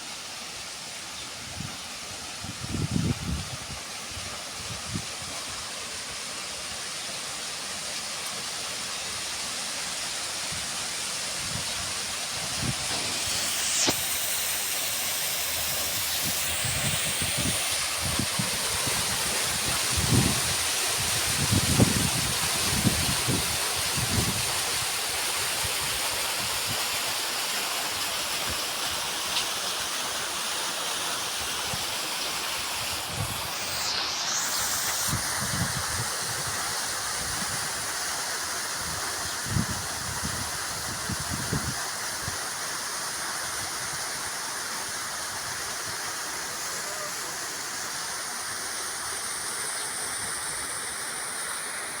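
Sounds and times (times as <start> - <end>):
stream flowing: 4.0 - 37.0, 42.5 - 52.0.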